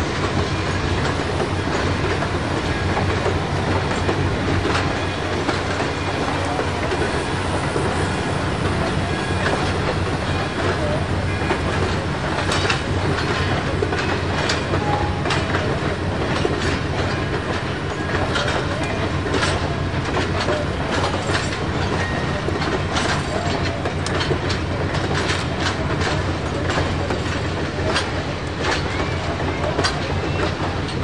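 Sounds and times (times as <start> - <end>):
steam locomotives rumbling: 0.0 - 31.0
train wheels clicking over rail joints: 0.0 - 31.0.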